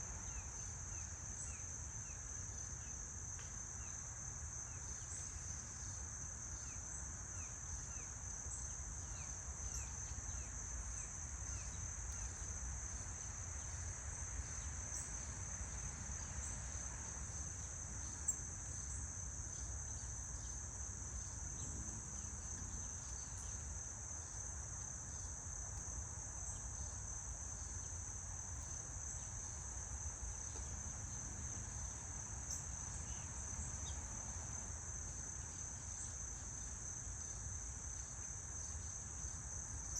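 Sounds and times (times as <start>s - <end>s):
insects trilling: 3.8s - 39.9s.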